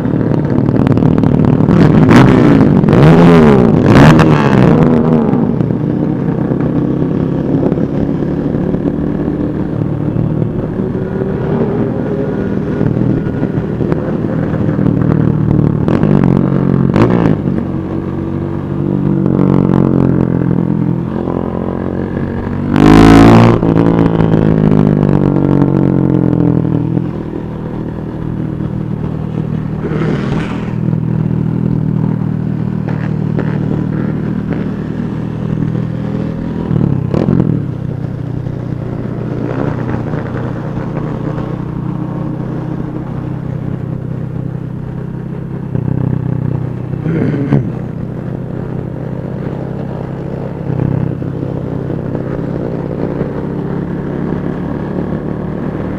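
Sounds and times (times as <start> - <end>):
engine revving: 0.0 - 55.9
motorcycle engines running: 0.0 - 55.9.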